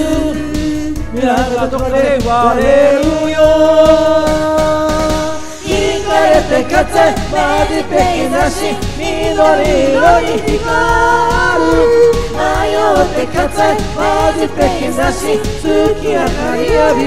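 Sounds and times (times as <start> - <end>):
people singing into microphones: 0.0 - 17.0
upbeat pop backing track: 0.0 - 17.0.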